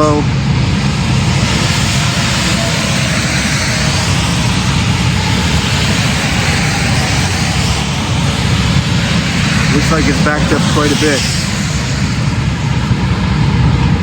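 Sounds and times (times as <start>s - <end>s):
road and wind noise: 0.0s - 14.0s
truck diesel engine rumble: 0.0s - 14.0s.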